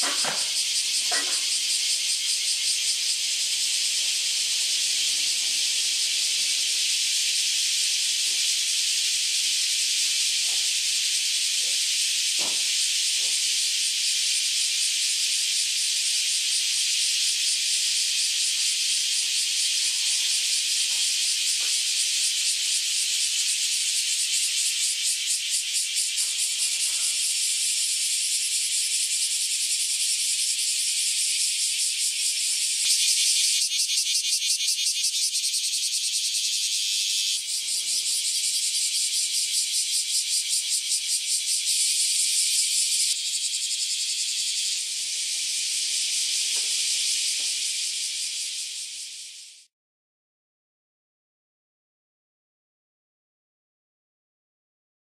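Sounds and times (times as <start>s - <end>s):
cicadas buzzing in chorus: 0.0s - 49.7s.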